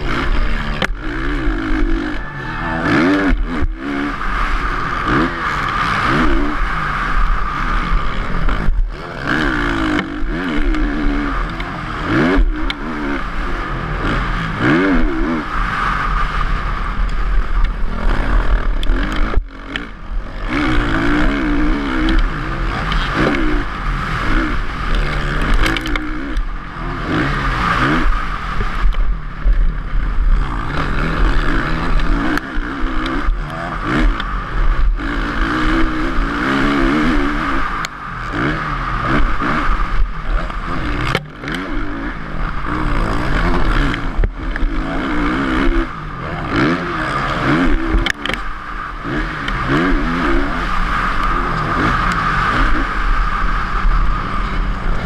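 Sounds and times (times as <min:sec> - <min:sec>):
motocross bike engine revving: 0:00.0 - 0:55.0
steady rushing noise: 0:00.0 - 0:55.0.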